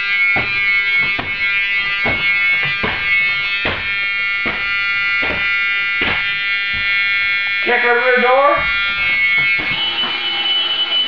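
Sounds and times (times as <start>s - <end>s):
footsteps and thuds on seats: 0.0s - 7.4s, 8.6s - 11.0s
high warning buzzer: 0.0s - 11.0s.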